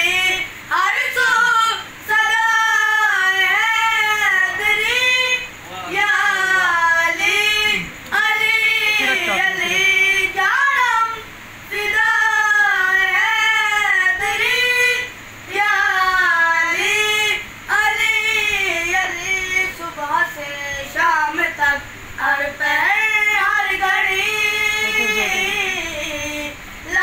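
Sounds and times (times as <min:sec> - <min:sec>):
boys singing unaccompanied: 0:00.0 - 0:27.0.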